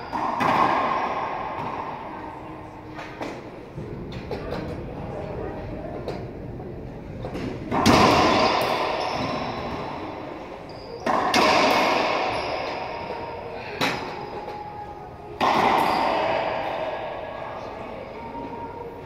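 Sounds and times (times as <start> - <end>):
racquetball struck in echoing court: 0.0 - 4.8, 7.2 - 18.9.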